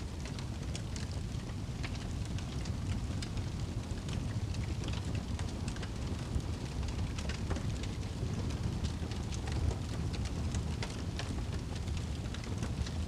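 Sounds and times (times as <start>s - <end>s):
burning logs crackling and popping: 0.0s - 13.0s
low roar of flames: 0.0s - 13.0s.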